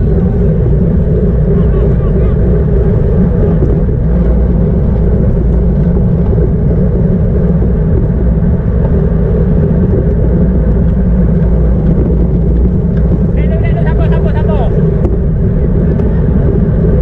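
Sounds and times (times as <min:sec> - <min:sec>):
wind and road noise rumble: 0:00.0 - 0:17.0.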